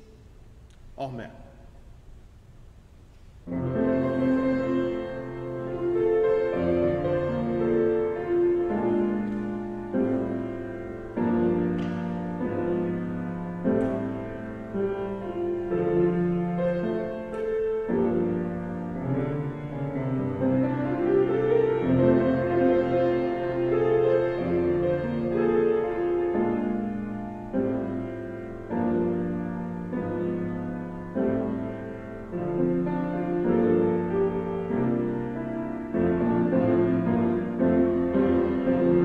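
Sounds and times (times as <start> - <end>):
keyboard playing slow chords: 3.5 - 39.0.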